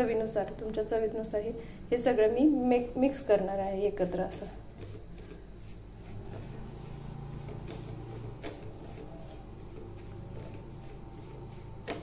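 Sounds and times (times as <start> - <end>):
powder scraping in a steel bowl: 2.0 - 12.0.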